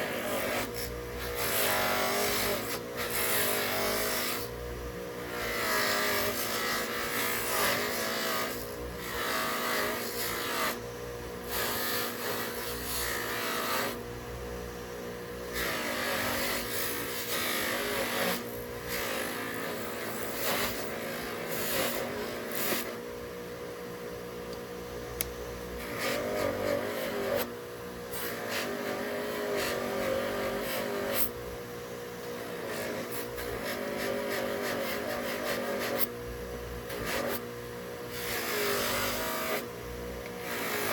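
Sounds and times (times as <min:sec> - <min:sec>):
electric power tool humming: 0:00.0 - 0:14.1, 0:14.7 - 0:23.0, 0:25.2 - 0:31.4, 0:32.1 - 0:40.9.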